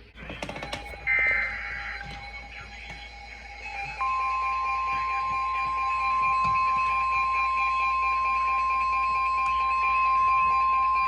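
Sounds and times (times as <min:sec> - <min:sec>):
faint pulsing tones: 0:00.0 - 0:11.0
high-pitched alarm tone: 0:00.4 - 0:11.0.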